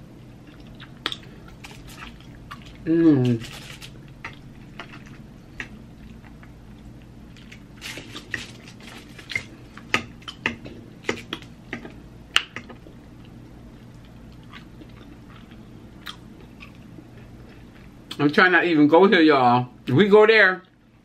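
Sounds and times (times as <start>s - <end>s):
wet chewing: 0.4s - 18.2s.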